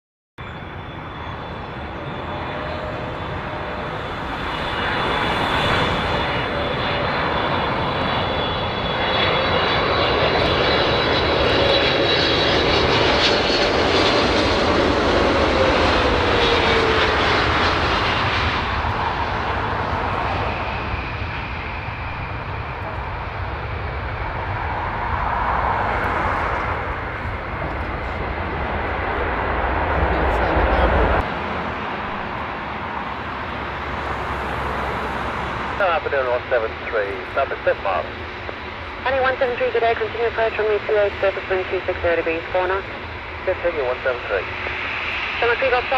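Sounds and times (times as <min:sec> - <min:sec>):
jet roar with high fan whine: 0:00.4 - 0:45.9.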